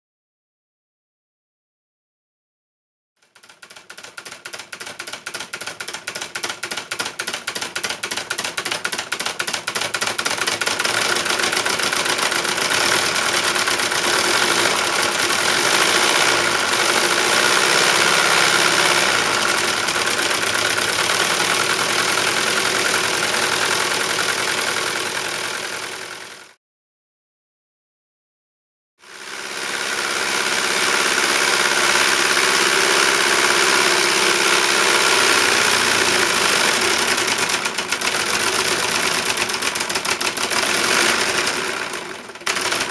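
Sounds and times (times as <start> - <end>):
solenoid engine clattering: 3.2 - 26.4, 29.8 - 42.9.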